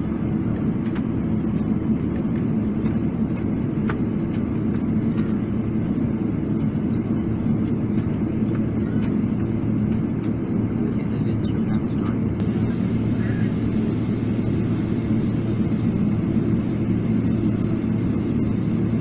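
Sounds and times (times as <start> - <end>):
aircraft cabin rumble: 0.0 - 19.0.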